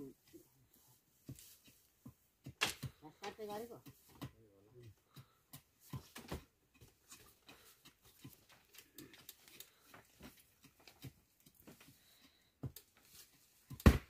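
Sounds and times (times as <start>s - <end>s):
knife chopping and scraping wood: 1.2s - 14.0s.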